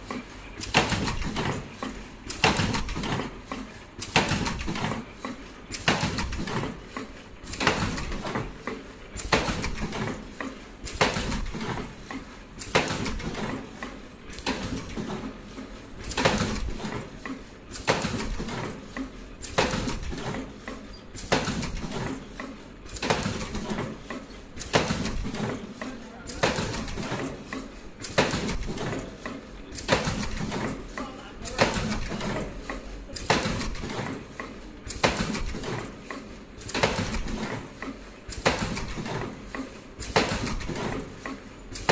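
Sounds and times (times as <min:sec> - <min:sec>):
machine clacking: 0:00.0 - 0:41.9.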